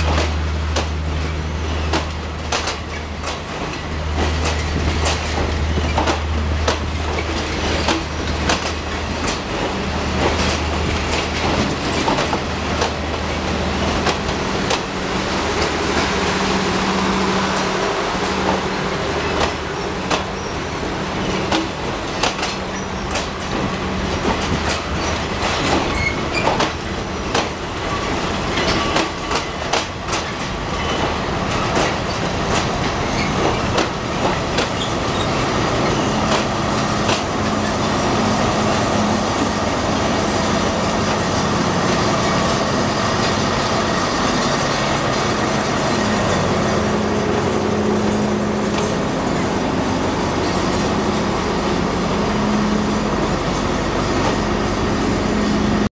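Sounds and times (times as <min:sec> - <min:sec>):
diesel locomotive hum: 0:00.0 - 0:55.9
train wheels clicking over rail joints: 0:00.0 - 0:55.9.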